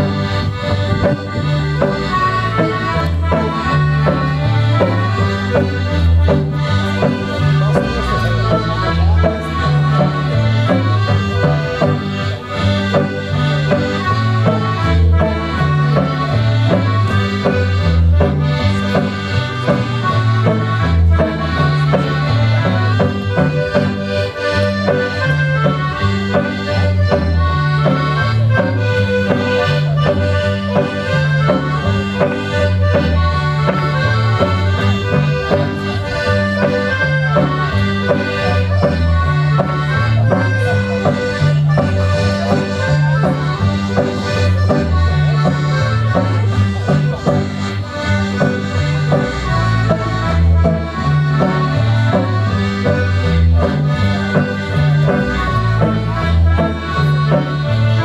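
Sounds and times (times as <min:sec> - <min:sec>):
accordion folk dance music: 0:00.0 - 0:58.0.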